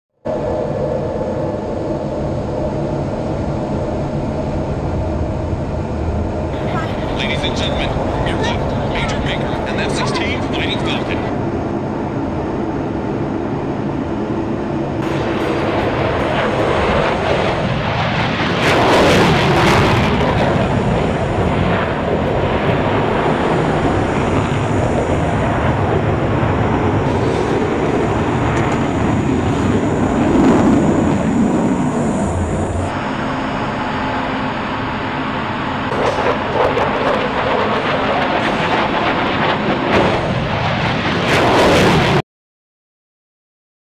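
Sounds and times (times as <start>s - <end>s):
jet engine and airflow rushing: 0.1s - 42.2s.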